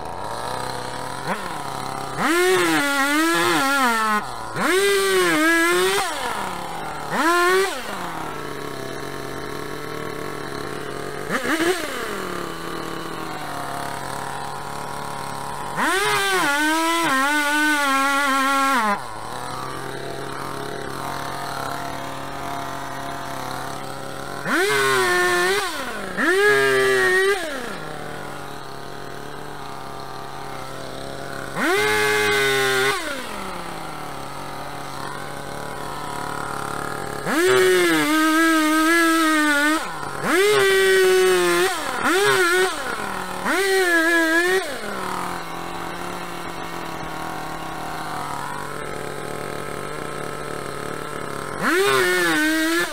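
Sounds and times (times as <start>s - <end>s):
chainsaw idling and revving: 0.0s - 52.9s.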